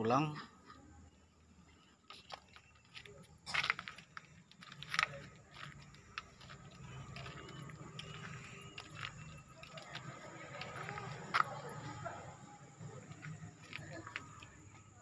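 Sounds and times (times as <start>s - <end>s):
footsteps crunching on gravel: 2.0s - 15.0s.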